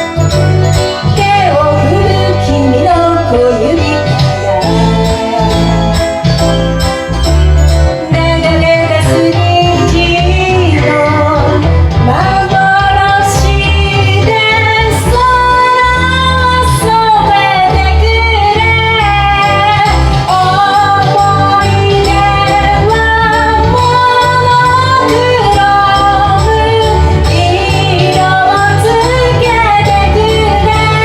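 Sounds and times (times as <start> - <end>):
woman singing: 0.0 - 6.0, 8.0 - 31.0
karaoke backing track: 0.0 - 31.0.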